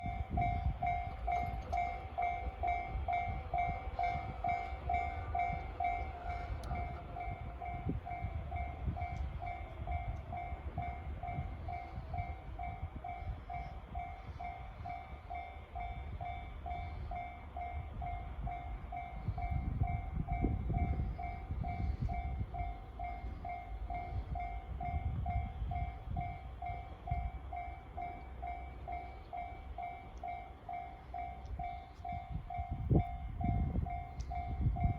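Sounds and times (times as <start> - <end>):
low rumble of passing train: 0.0 - 34.9.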